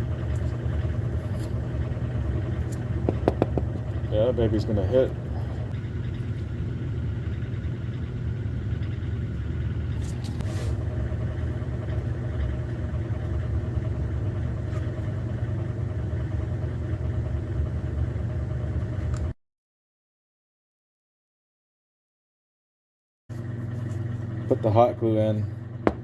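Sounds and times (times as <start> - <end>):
low motor hum: 0.0 - 19.4, 23.3 - 26.0.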